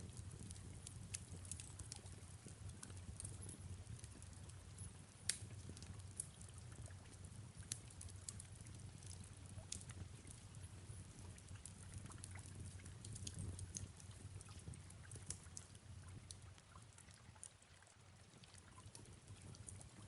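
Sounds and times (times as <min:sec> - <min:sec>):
low steady rumble: 0:00.0 - 0:20.0
soft rain: 0:00.0 - 0:20.0
wood fire crackling and popping: 0:00.0 - 0:20.0.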